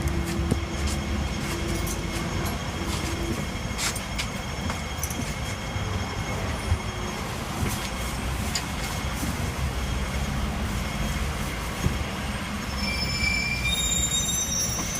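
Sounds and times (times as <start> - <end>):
tram rumbling on track: 0.0 - 14.9.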